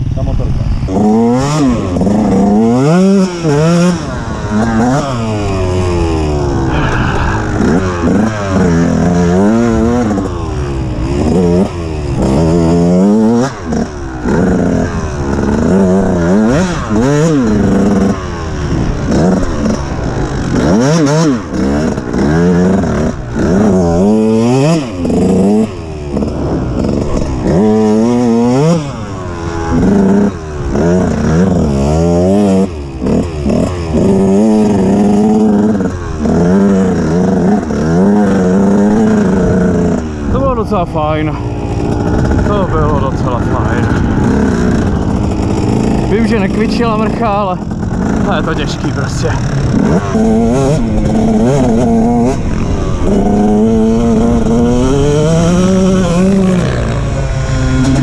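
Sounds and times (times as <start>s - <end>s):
two-stroke dirt bike revving: 0.0s - 58.0s.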